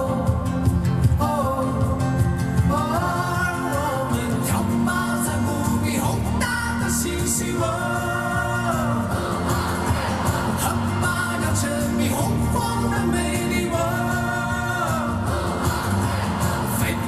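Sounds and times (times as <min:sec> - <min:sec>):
live pop music: 0:00.0 - 0:17.0.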